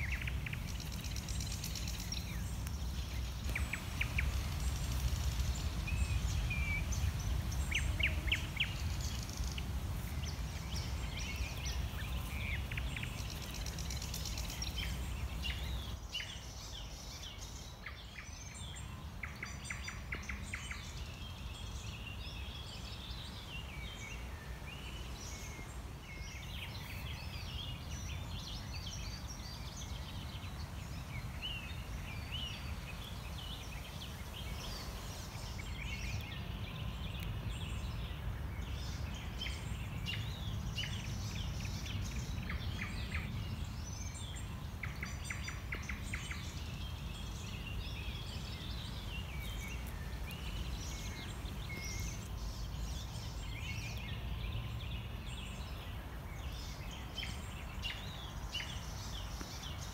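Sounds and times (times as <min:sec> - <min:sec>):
songbirds singing and calling: 0:00.0 - 0:59.9.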